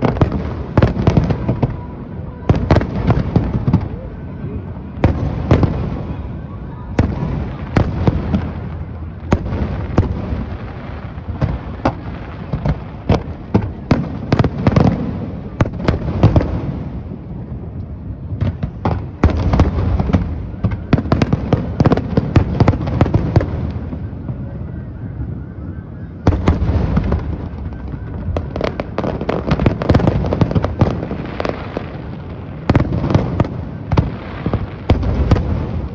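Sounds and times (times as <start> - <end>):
fireworks bangs and crackling: 0.0 - 35.9.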